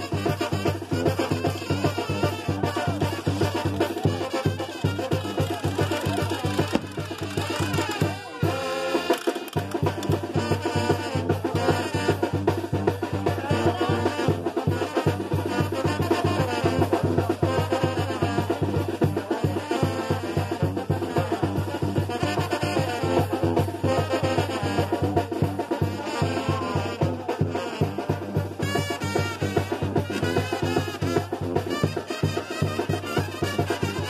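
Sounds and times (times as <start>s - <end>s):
brass band playing dance tune: 0.0s - 34.0s.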